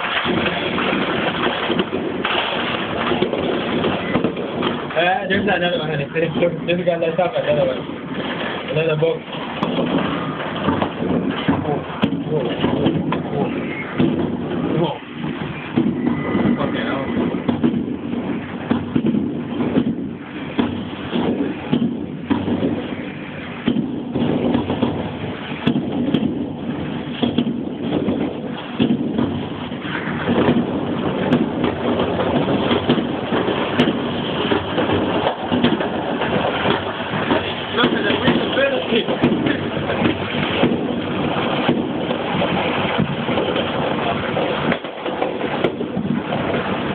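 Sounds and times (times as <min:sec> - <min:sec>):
rumble of firework explosions: 0:00.0 - 0:46.9
sharp firework bangs: 0:00.0 - 0:46.9.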